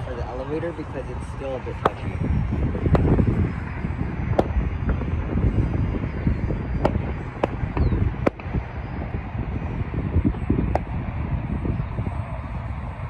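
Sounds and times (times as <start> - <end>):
distant model plane motor whine: 0.0 - 13.0
wind buffeting microphone: 0.0 - 13.0.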